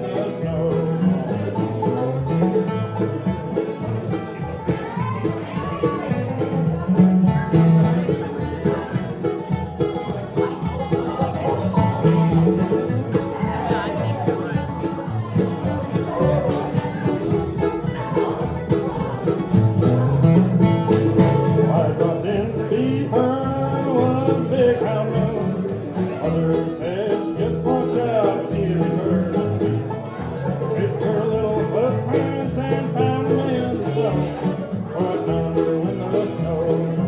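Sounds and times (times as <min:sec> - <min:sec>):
banjo rolls: 0:00.0 - 0:37.0
bluegrass band playing: 0:00.0 - 0:37.0.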